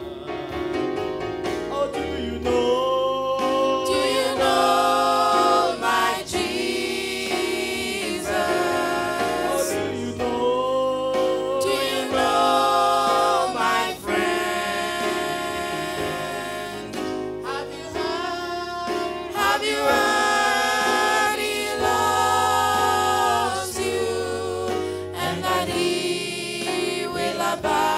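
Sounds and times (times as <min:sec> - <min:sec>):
electronic keyboard: 0:00.0 - 0:27.9
vocal group singing in harmony: 0:00.0 - 0:27.9.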